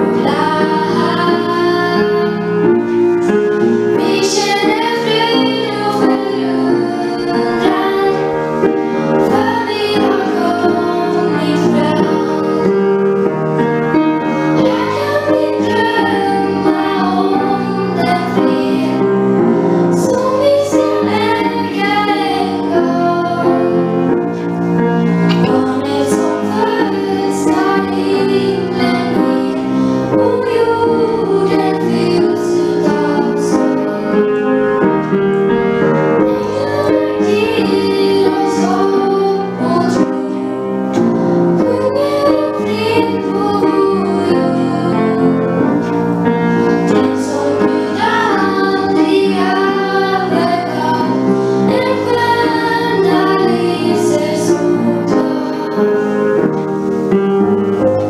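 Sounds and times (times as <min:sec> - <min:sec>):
two girls singing in duet: 0:00.0 - 0:56.7
instrumental accompaniment: 0:00.0 - 0:58.0.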